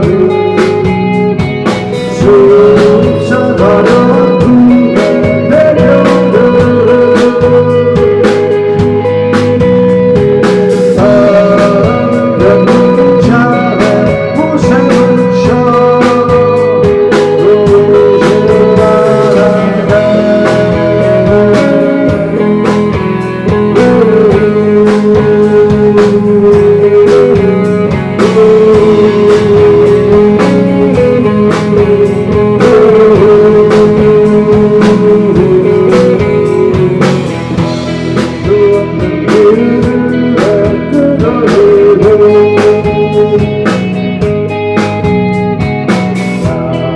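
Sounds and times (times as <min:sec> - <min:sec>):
bass guitar: 0:00.0 - 0:46.9
drums: 0:00.0 - 0:46.9
person singing: 0:00.0 - 0:46.9
sustained lead guitar: 0:00.0 - 0:46.9.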